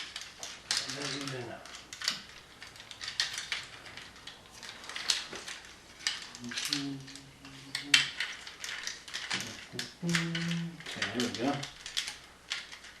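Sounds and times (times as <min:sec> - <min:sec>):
plastic toy clicking and rattling: 0:00.0 - 0:13.0.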